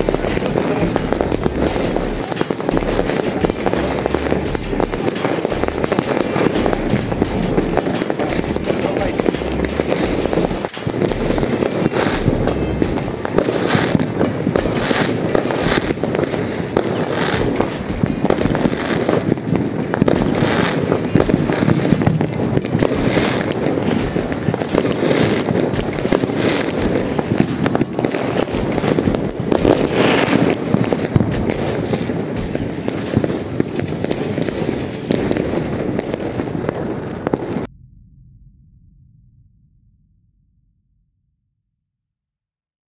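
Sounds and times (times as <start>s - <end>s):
fireworks crackling and banging: 0.0s - 37.7s.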